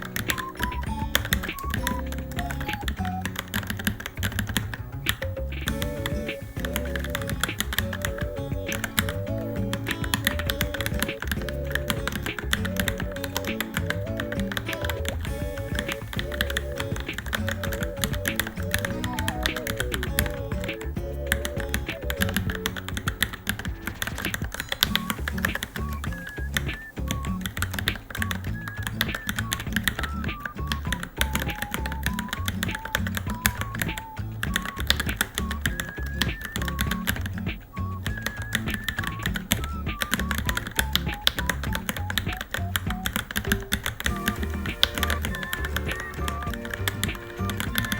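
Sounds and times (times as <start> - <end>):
background music: 0.0 - 47.9
mechanical keyboard typing: 0.0 - 47.9.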